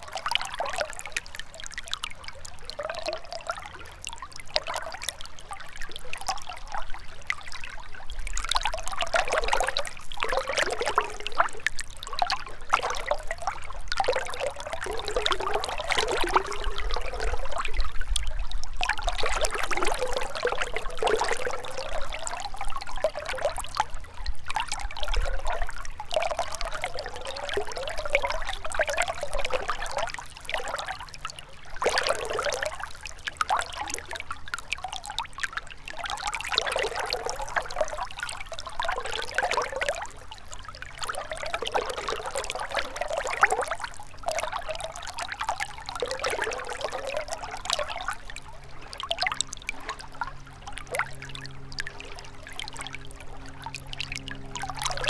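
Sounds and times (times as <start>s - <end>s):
river water flowing and splashing: 0.0s - 55.0s.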